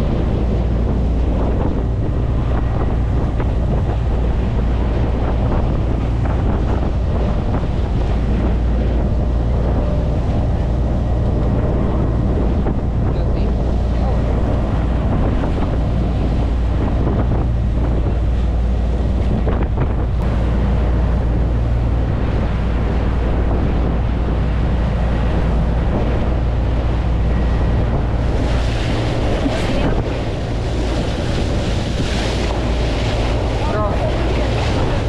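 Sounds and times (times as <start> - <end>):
boat engine drone: 0.0 - 35.0
water rushing along hull: 0.0 - 35.0
wind buffeting microphone: 0.0 - 35.0.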